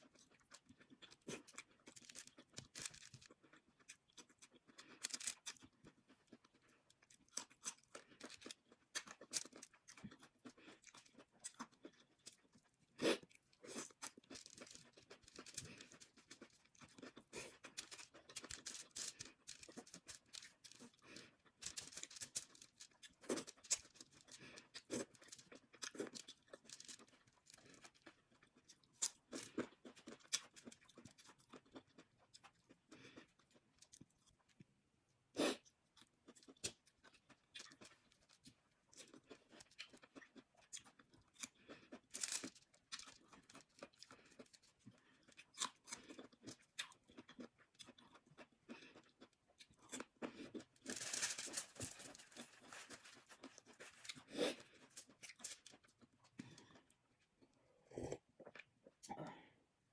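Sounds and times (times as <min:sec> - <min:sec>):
chewing and crunching: 0:00.0 - 0:34.7, 0:35.4 - 0:59.1.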